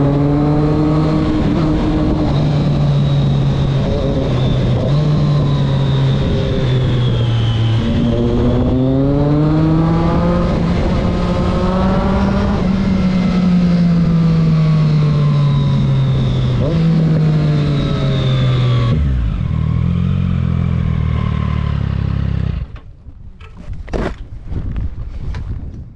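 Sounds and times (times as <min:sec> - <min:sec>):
motorcycle engine slowing and idling: 0:00.0 - 0:23.7.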